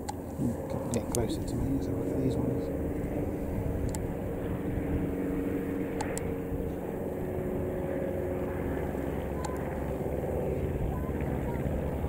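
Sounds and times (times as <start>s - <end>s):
biplane engines droning overhead: 0.0s - 12.0s.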